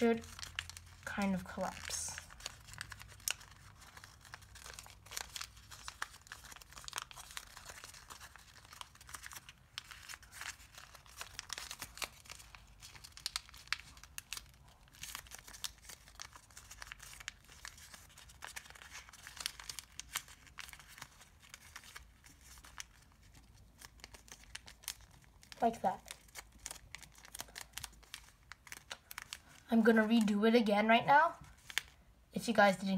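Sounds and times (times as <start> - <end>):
paper crinkling: 0.0 - 30.3, 31.4 - 32.0.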